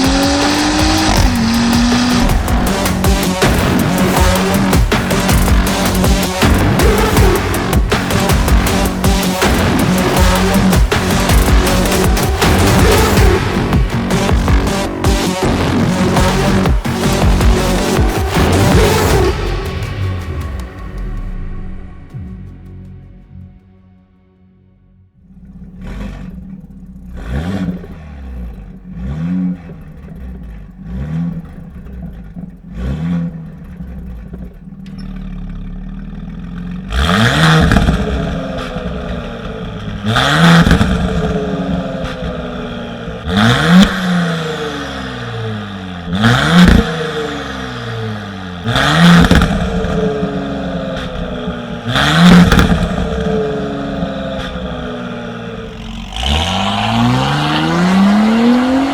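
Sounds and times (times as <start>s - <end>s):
engine idling: 0.0s - 23.2s, 25.2s - 58.9s
car engine revving: 0.0s - 23.7s, 25.1s - 58.9s.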